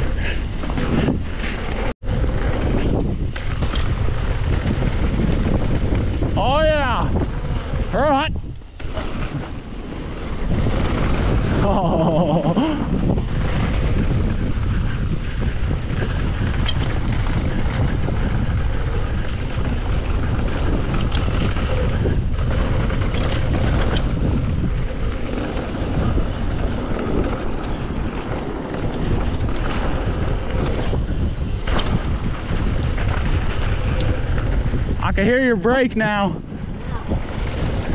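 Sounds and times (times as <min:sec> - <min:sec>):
bike knocking and rattling: 0:00.0 - 0:37.9
wind buffeting microphone: 0:00.0 - 0:37.9.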